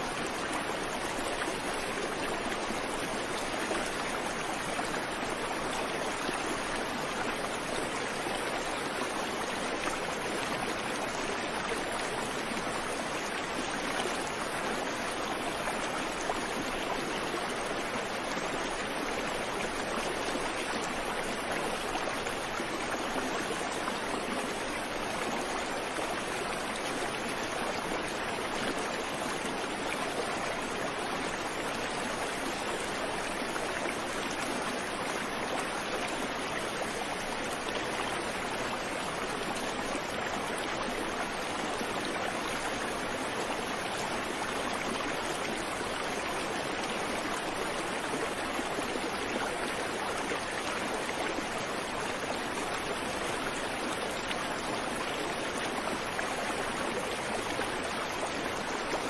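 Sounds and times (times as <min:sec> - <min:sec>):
creek water running over rocks: 0:00.0 - 0:59.0.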